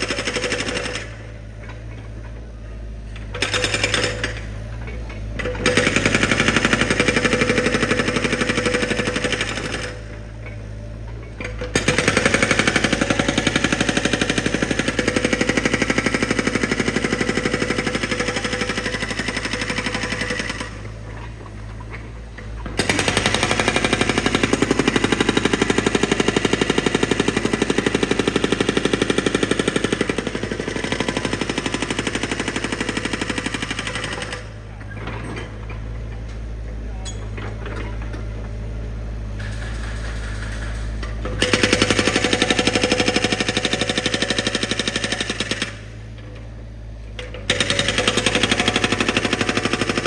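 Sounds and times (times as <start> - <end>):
construction drill hammering: 0.0 - 2.4, 3.2 - 36.2, 39.3 - 46.5, 47.2 - 50.0.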